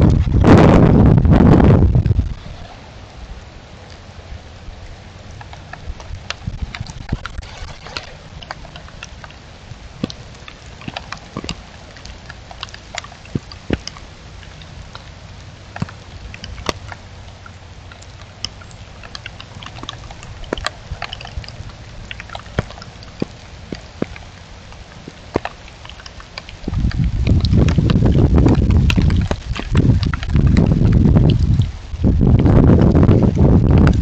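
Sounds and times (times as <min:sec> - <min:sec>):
rain: 0:00.0 - 0:34.0
wind rumble on microphone: 0:00.0 - 0:34.0.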